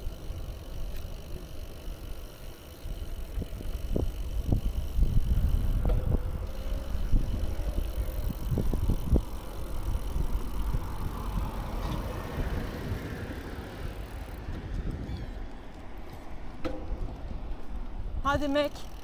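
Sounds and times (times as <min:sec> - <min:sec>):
wind rumbling on microphone: 0:00.0 - 0:18.5
road noise: 0:00.0 - 0:19.0.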